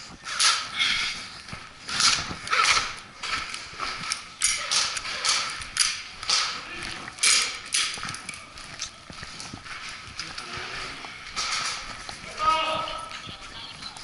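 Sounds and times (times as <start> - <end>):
footsteps on hard floor: 0.0 - 14.0.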